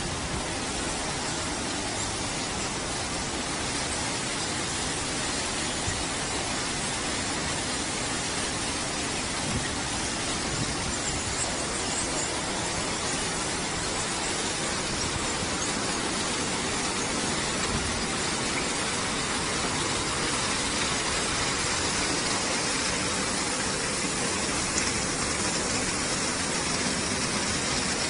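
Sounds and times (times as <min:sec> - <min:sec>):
car wash brushes and spray: 0:00.0 - 0:28.0.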